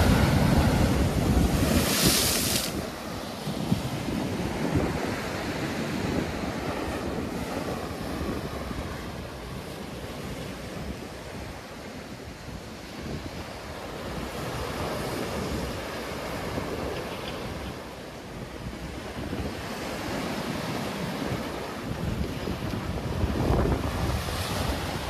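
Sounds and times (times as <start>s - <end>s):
sea waves breaking on shore: 0.0s - 25.0s
wind buffeting microphone: 0.0s - 25.0s.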